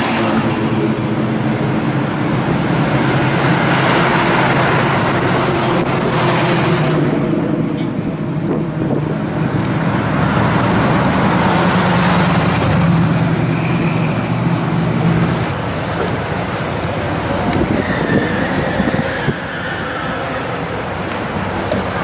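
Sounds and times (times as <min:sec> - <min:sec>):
cars moving along street: 0:00.0 - 0:22.0.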